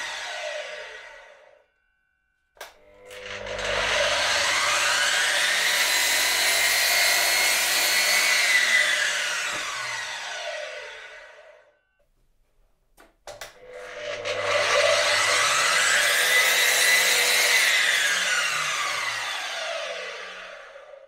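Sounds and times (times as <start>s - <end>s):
mitre saw cutting wood: 0.0s - 1.6s, 3.0s - 11.6s, 13.6s - 21.0s.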